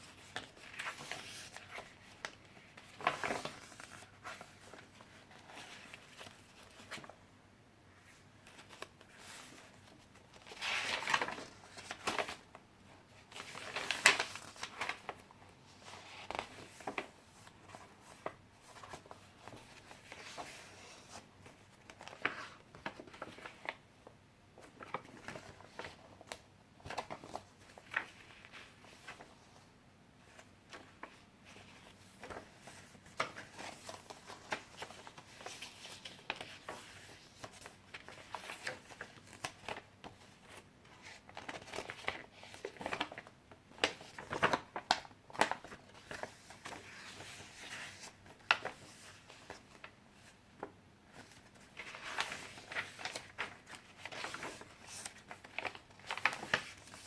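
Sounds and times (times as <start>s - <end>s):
paper pages rustling: 0.0s - 7.1s, 8.4s - 23.8s, 24.6s - 29.6s, 30.3s - 57.0s.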